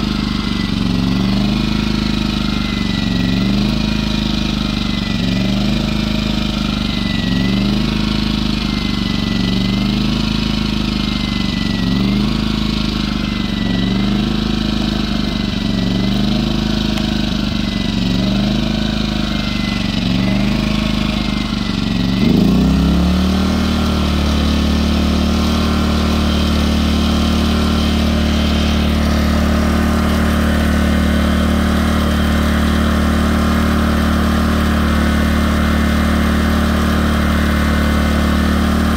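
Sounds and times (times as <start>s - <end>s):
generator engine surging: 0.0s - 38.9s.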